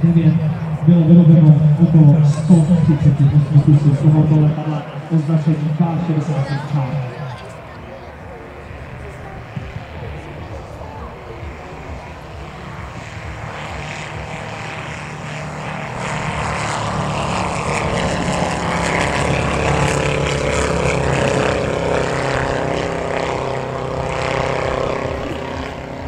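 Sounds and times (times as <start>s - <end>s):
propeller plane flying past: 0.0s - 26.0s.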